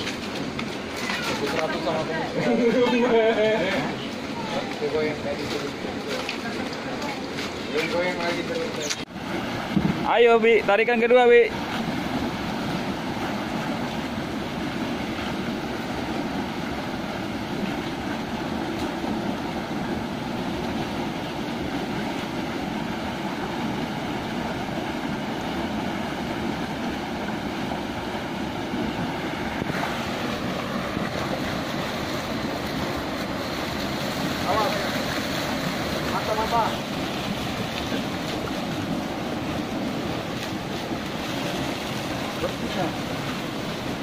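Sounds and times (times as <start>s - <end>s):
water rushing through sluice gate: 0.0s - 44.0s.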